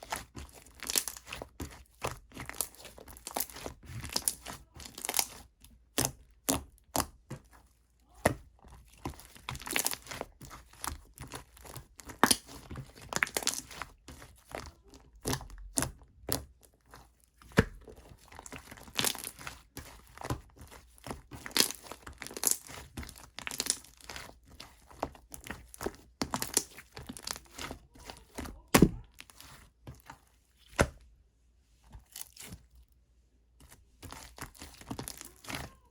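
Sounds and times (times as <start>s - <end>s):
slime squished by hand: 0.0s - 31.1s, 31.9s - 32.8s, 33.6s - 35.9s.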